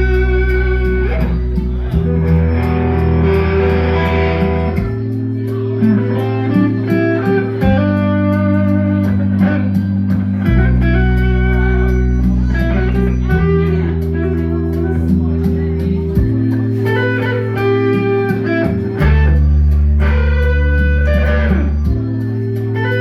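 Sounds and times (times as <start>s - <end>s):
bass notes: 0.0s - 23.0s
electric guitar melody: 0.0s - 23.0s.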